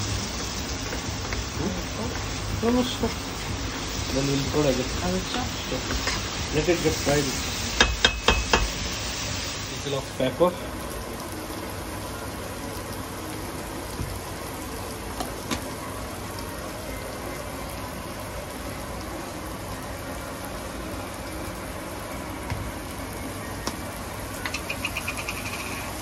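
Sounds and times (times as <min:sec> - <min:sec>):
spices sizzling in oil: 0:00.0 - 0:26.0.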